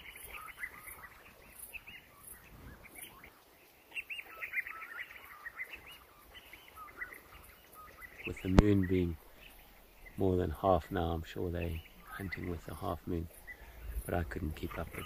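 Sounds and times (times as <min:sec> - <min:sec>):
wild dogs twittering: 0:00.0 - 0:15.0.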